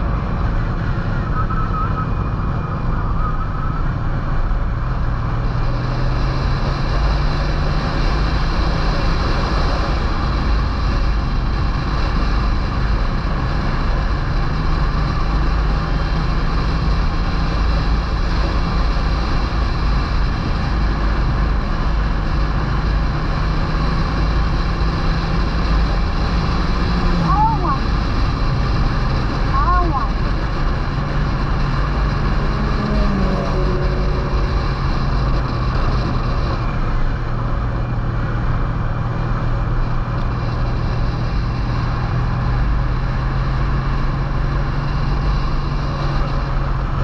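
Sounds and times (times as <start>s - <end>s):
wind rush on microphone: 0.0s - 47.0s
motorcycle engine running: 3.7s - 47.0s.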